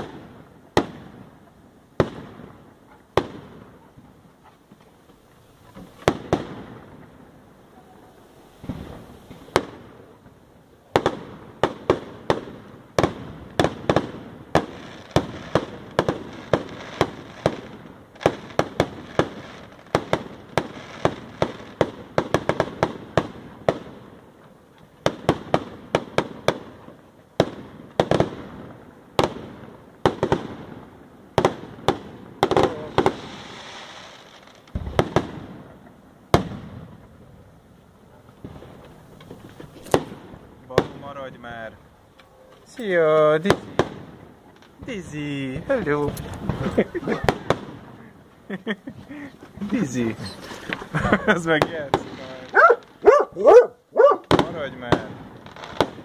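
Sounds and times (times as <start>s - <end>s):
fireworks bangs and pops: 0.0s - 7.4s, 8.5s - 37.5s, 38.1s - 53.1s, 54.2s - 56.0s
fireworks crackling: 0.0s - 56.0s.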